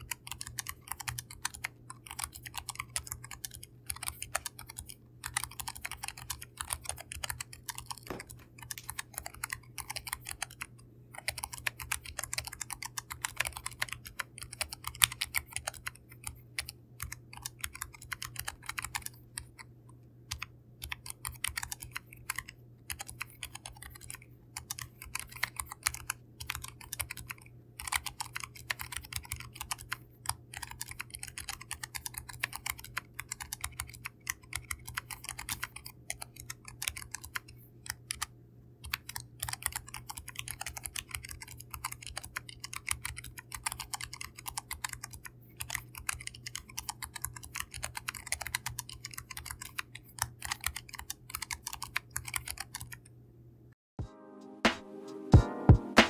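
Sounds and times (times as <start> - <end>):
fast keyboard typing: 0.0 - 53.1.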